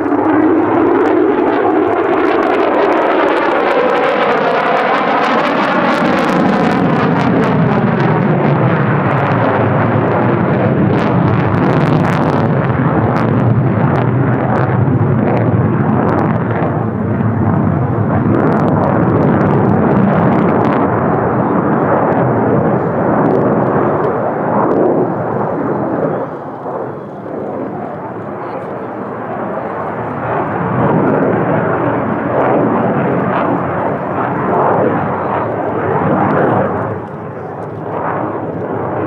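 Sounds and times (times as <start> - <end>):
loud crackling jet engine: 0.0 - 39.0.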